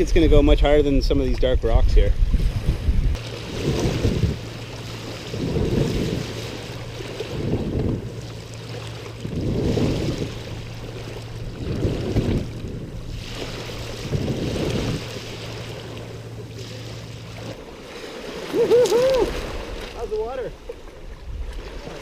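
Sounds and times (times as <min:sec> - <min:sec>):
wind buffeting microphone: 0:00.0 - 0:17.6, 0:18.3 - 0:22.0
steady low hum: 0:00.0 - 0:22.0.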